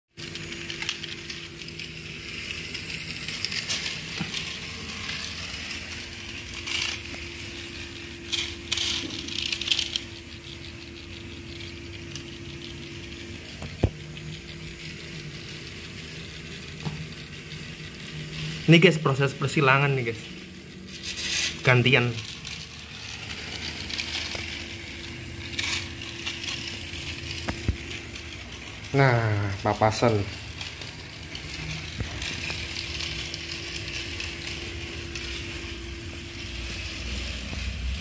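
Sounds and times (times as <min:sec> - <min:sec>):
toy train motor humming: 0:00.1 - 0:38.0.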